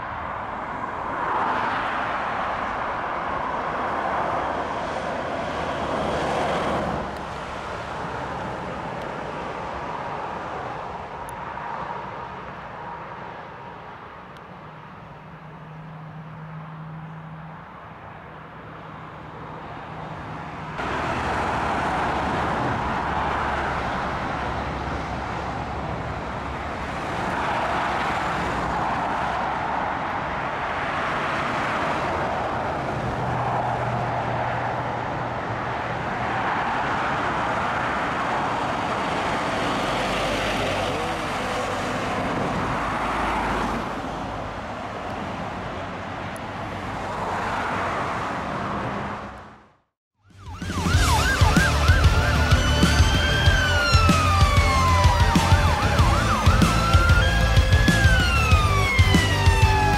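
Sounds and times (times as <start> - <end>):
fire engine driving by: 0.0 - 44.7, 50.2 - 59.9
road traffic passing: 0.0 - 59.9.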